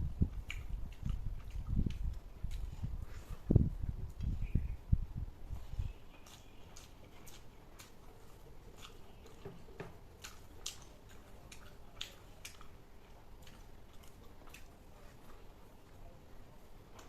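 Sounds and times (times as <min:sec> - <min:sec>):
person chewing food: 0:00.1 - 0:03.5, 0:05.5 - 0:16.0.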